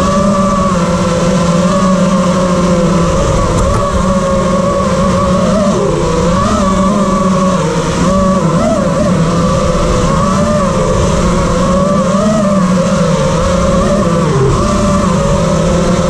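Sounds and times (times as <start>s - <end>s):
drone motors whining: 0.0s - 16.0s
propeller wash rushing: 0.0s - 16.0s.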